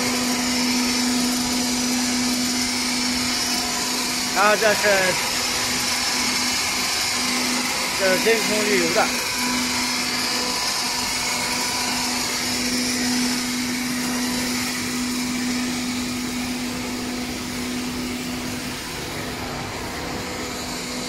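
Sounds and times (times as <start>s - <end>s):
machine motors humming and whirring: 0.0s - 21.0s.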